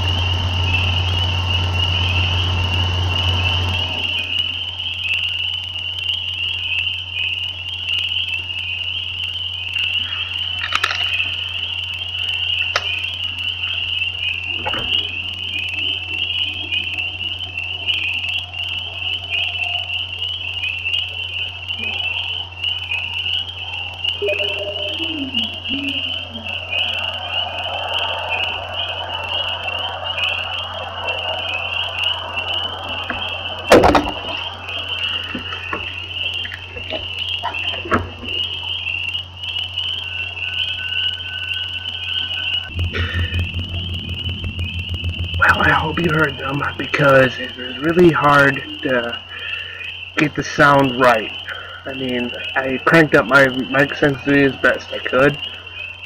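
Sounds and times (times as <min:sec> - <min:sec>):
low steady hum: 0:00.0 - 0:06.6, 0:09.6 - 0:56.0
frogs calling in a chorus: 0:00.0 - 0:43.5, 0:44.2 - 0:56.0.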